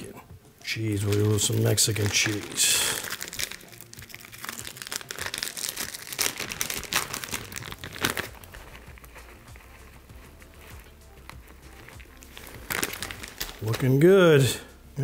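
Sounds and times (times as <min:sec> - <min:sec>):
plastic bag crinkling: 0:00.8 - 0:14.6.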